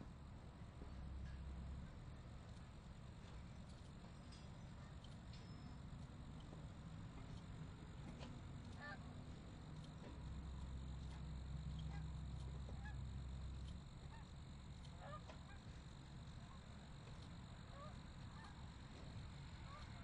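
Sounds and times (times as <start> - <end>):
crickets chirping: 0.0 - 20.0
low hum: 0.0 - 20.0.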